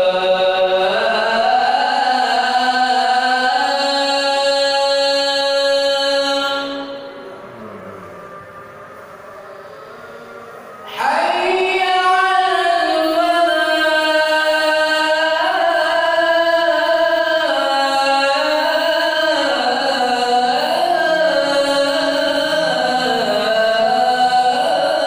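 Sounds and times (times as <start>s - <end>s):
man chanting call to prayer: 0.0s - 8.6s, 10.8s - 25.0s.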